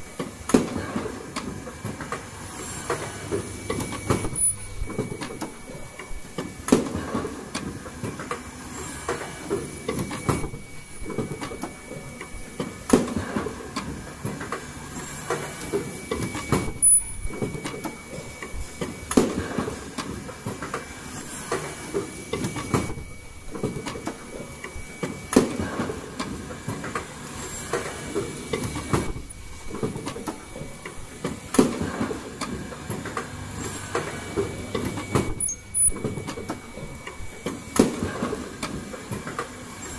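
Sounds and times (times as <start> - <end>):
machine clattering: 0.1 - 39.9.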